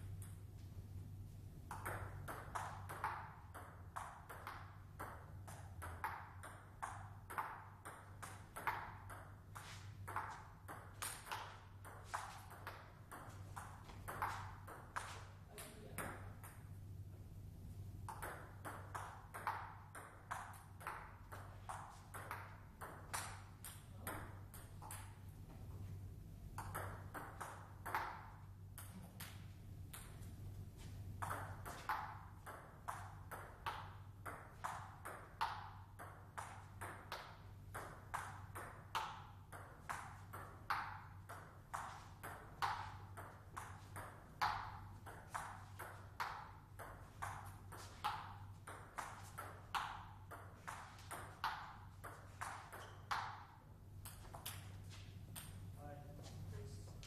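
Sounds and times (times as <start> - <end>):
steady low hum: 0.0 - 57.0
table tennis ball clicking: 1.7 - 15.1, 18.0 - 25.2, 26.6 - 30.2, 31.2 - 54.7.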